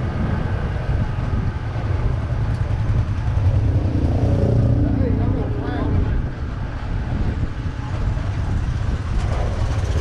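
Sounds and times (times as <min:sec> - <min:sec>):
tram engine and rolling noise: 0:00.0 - 0:10.0.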